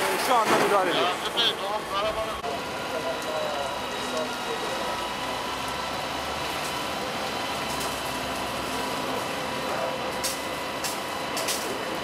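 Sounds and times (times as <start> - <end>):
fire hose spraying water: 0.0 - 12.0
fire crackling: 0.1 - 12.0
fire truck engine running: 0.2 - 12.0.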